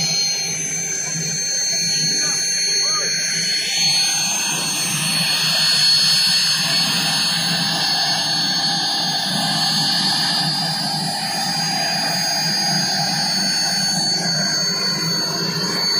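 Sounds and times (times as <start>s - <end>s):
high turbine whine: 0.0s - 15.9s
low rotor and engine rumble: 0.0s - 15.9s.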